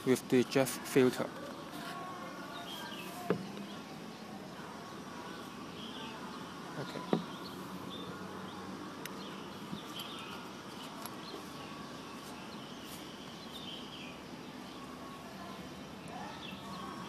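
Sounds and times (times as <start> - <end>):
small birds chirping: 0.0 - 17.0
steady outdoor hum: 0.0 - 17.0.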